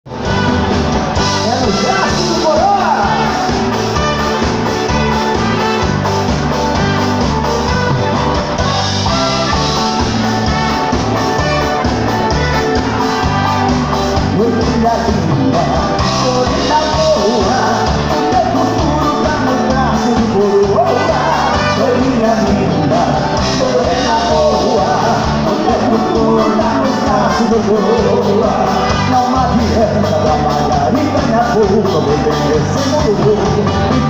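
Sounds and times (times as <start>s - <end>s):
live dance band playing: 0.0s - 34.0s
man singing: 0.1s - 7.8s, 8.6s - 34.0s.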